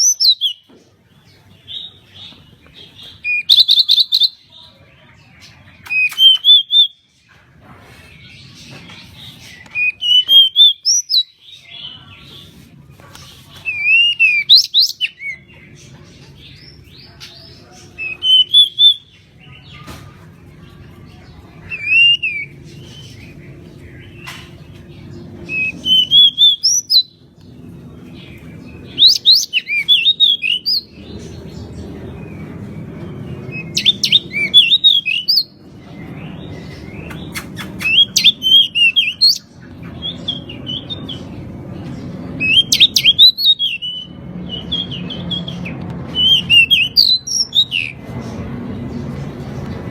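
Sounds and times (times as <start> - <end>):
bird singing: 0.0 - 7.3, 8.1 - 12.6, 13.5 - 19.9, 20.5 - 49.9.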